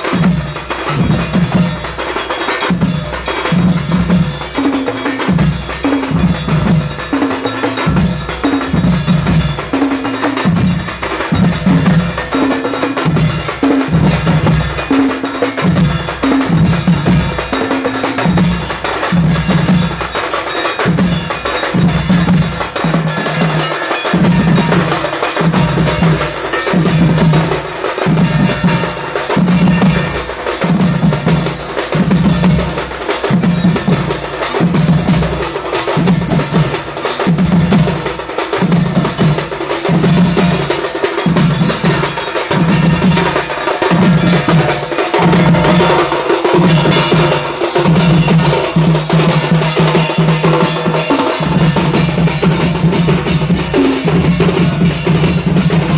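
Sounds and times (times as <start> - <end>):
drum band playing: 0.0 - 55.9.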